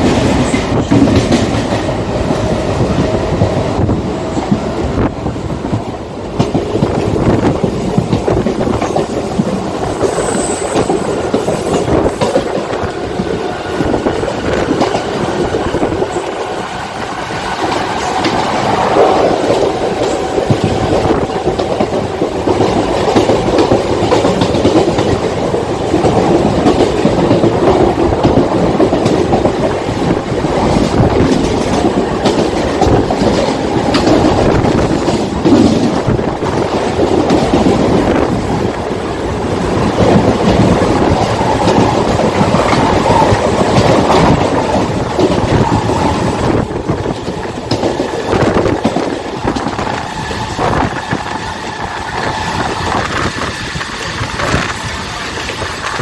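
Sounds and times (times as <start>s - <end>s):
train rumbling at speed: 0.0s - 56.0s.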